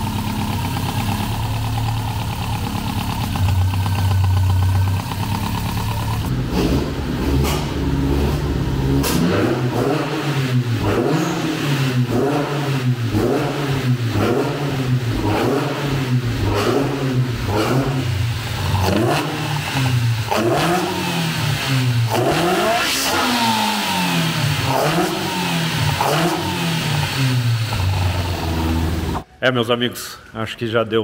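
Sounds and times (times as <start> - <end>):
car engine revving: 0.0 - 29.2.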